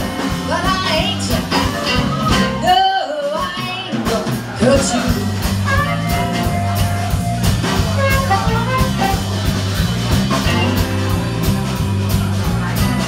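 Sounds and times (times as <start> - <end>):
bass line: 0.0 - 13.0
drum kit: 0.0 - 13.0.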